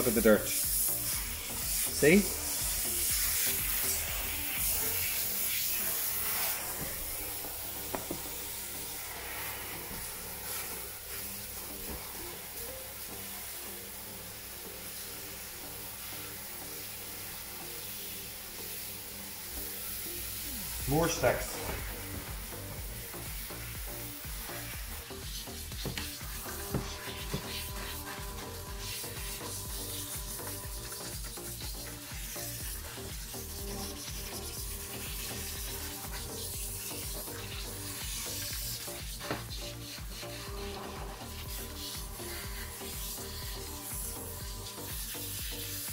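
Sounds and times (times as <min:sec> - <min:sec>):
background music: 0:00.0 - 0:45.9
shower head spraying water: 0:00.0 - 0:45.9.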